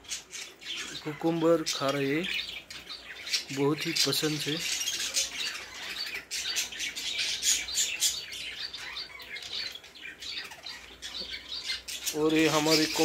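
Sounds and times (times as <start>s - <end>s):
birds chattering: 0.0s - 13.0s.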